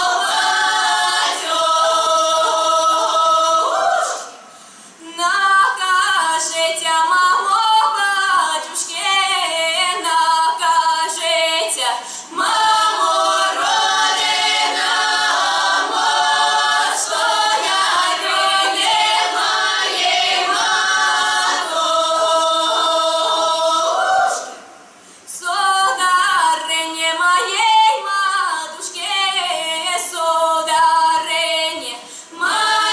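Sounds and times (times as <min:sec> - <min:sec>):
women singing a cappella: 0:00.0 - 0:32.9.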